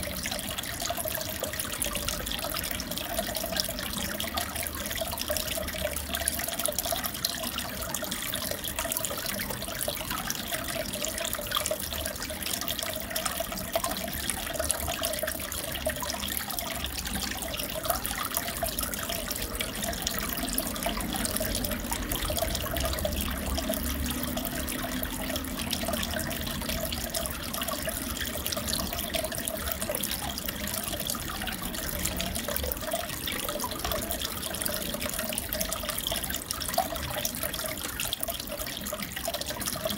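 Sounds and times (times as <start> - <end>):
fish tank water bubbling: 0.0 - 39.9.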